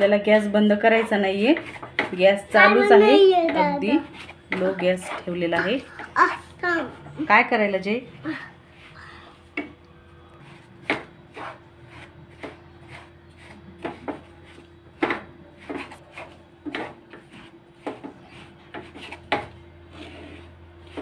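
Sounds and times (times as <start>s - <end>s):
spatula scraping in a pan: 0.0s - 6.7s, 10.4s - 21.0s.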